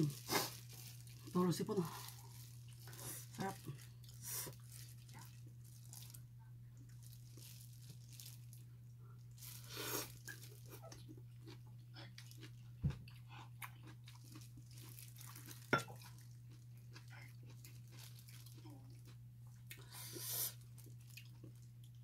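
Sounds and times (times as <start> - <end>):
chewing and crunching: 0.0 - 22.0
steady low hum: 0.0 - 22.0.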